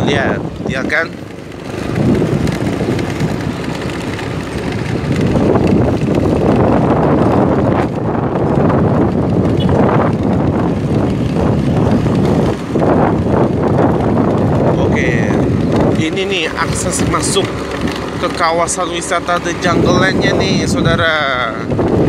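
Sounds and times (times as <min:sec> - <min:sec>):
moving vehicle running noise: 0:00.0 - 0:22.0
wind buffeting microphone: 0:00.0 - 0:22.0.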